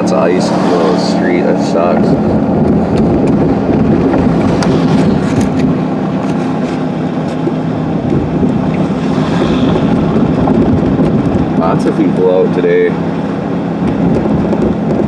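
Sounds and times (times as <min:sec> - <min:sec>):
car engine hum: 0:00.0 - 0:15.0
tyre and road noise: 0:00.0 - 0:15.0.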